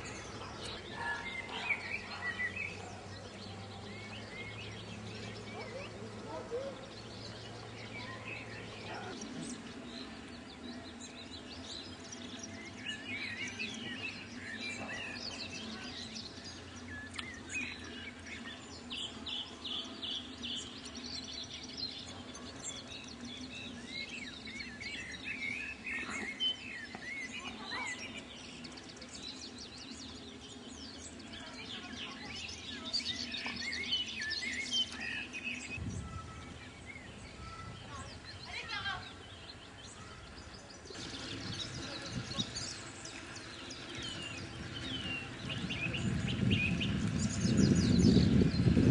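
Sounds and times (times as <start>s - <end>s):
songbirds chirping and singing: 0.0s - 48.9s.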